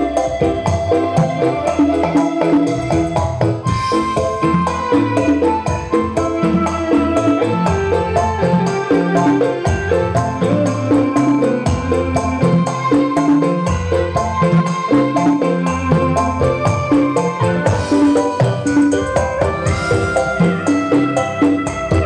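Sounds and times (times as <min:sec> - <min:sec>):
low bass notes: 0:00.0 - 0:22.0
shaker and tambourine beat: 0:00.0 - 0:22.0
upbeat music through speaker: 0:00.0 - 0:22.0.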